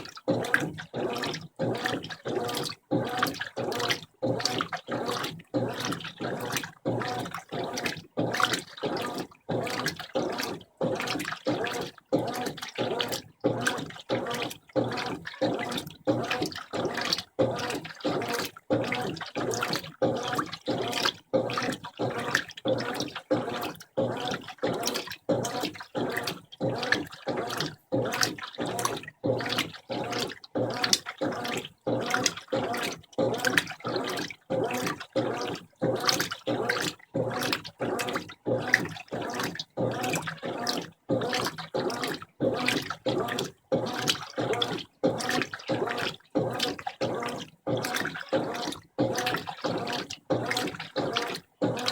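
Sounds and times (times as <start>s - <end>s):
washing machine churning water: 0.0s - 51.9s.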